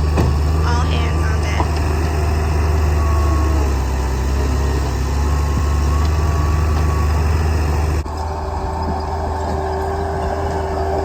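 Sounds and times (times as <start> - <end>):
diesel earthmoving equipment rumbling: 0.0 - 11.0.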